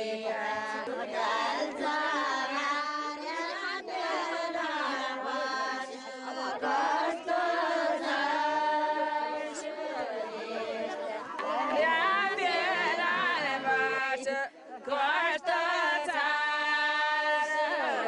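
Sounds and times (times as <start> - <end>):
women singing together: 0.0 - 18.0.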